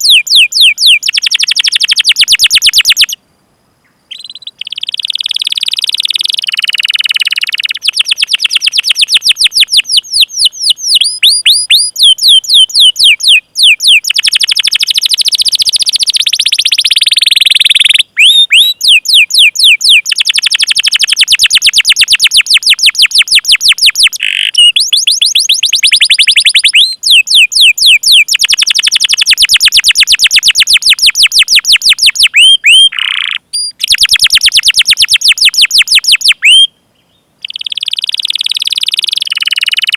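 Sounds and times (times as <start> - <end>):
canary singing trills: 0.0 - 3.2, 3.8 - 39.9.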